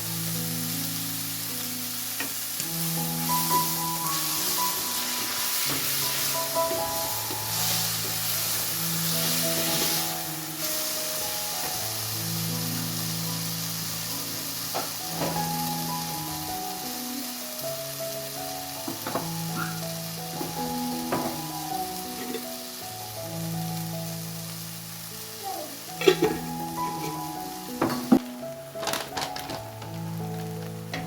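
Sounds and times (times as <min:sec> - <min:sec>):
food sizzling: 0:00.0 - 0:31.0
slow background music: 0:00.0 - 0:31.0.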